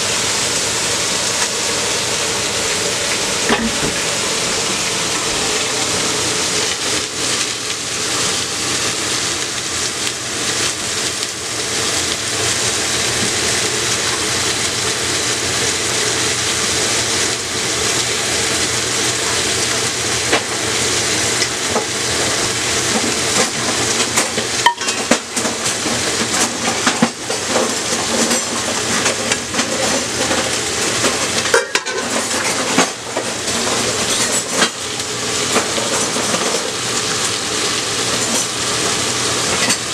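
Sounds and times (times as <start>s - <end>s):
food sizzling in a hot pan: 0.0s - 39.9s.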